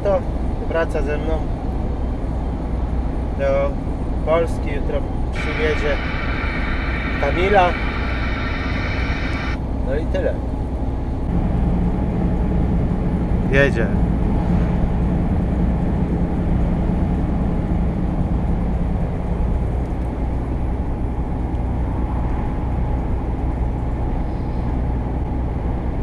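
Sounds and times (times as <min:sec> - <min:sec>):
lorry engine drone: 0:00.0 - 0:26.0.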